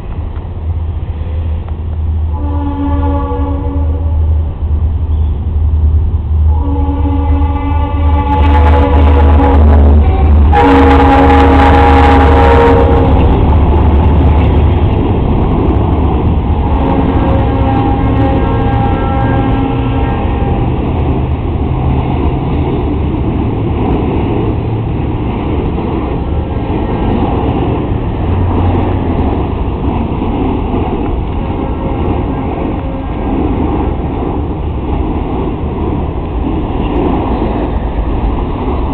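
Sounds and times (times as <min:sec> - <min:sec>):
freight cars rolling past: 0:04.4 - 0:38.9.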